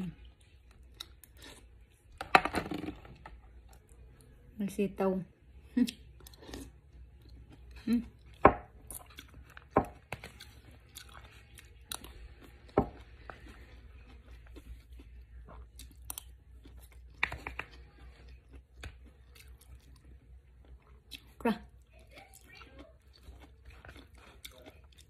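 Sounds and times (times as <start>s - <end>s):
person chewing food: 0.0s - 2.2s, 5.8s - 25.0s.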